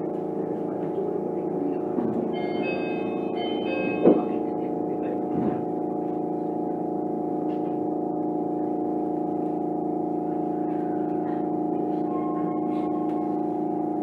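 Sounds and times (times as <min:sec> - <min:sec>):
monorail car humming: 0:00.0 - 0:14.0.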